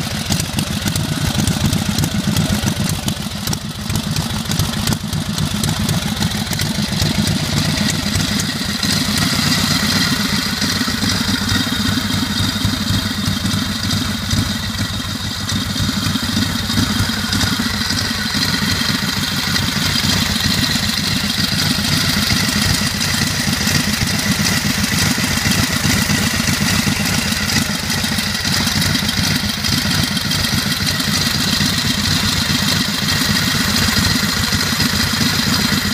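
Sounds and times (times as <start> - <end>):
v-twin engine running: 0.0 - 35.9.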